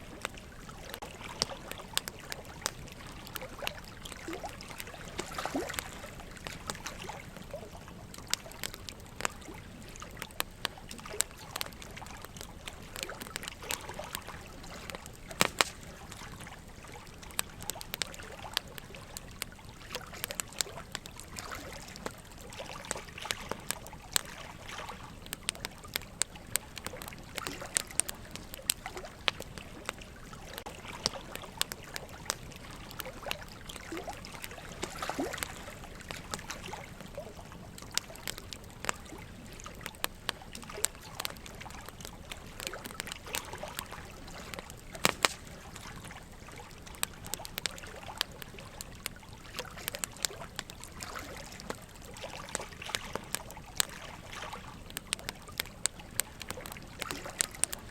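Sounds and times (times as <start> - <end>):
water trickling: 0.0 - 57.9
wood fire crackling and popping: 0.0 - 57.9.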